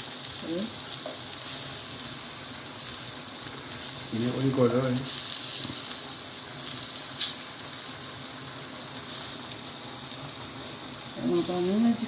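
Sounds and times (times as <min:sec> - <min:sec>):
plantain slices sizzling in pan: 0:00.0 - 0:12.0.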